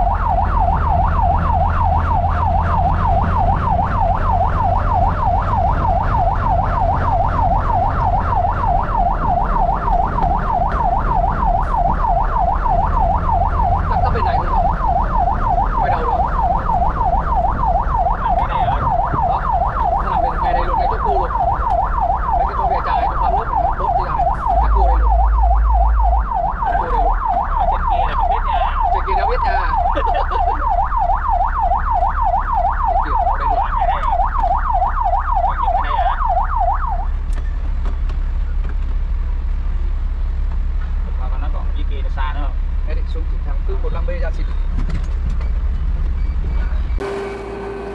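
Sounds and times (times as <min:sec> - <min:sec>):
fire truck yelp siren: 0:00.0 - 0:37.3, 0:46.8 - 0:47.9
diesel engine rumble: 0:00.0 - 0:47.9.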